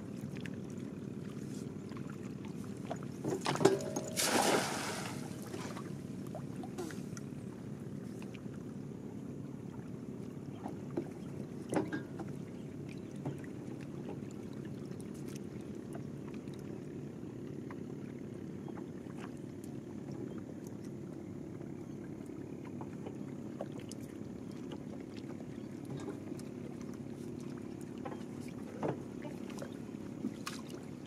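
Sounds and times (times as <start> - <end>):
boat low rumble: 0.0 - 31.0.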